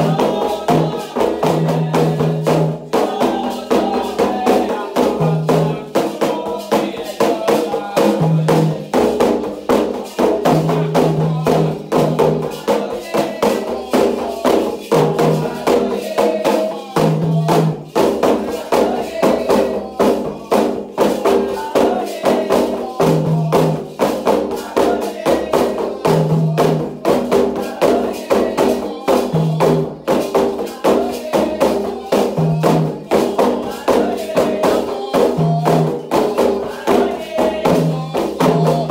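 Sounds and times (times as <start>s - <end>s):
hand drums: 0.0s - 38.9s
struck percussion: 0.0s - 38.9s
voices singing: 0.0s - 38.9s.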